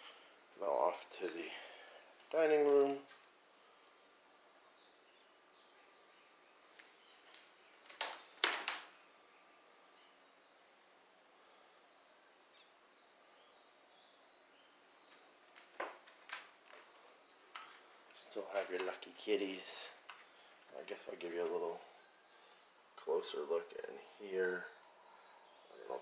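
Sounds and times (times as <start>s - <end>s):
faint chirps: 0.0s - 26.0s
faint high-pitched whine: 0.0s - 26.0s.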